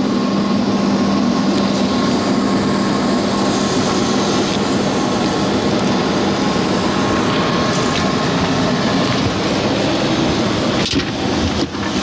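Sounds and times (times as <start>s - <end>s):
air handler blower running: 0.0s - 12.0s.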